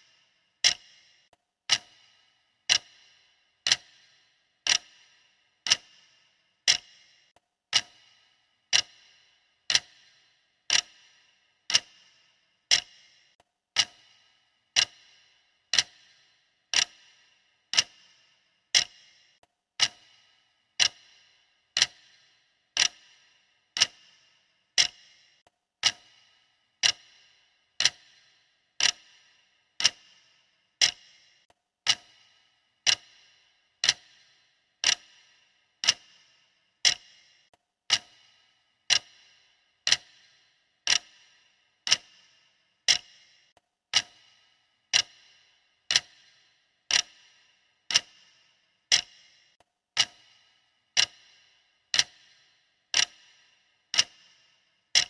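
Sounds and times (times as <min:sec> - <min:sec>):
timer ticking: 0:00.0 - 0:55.0.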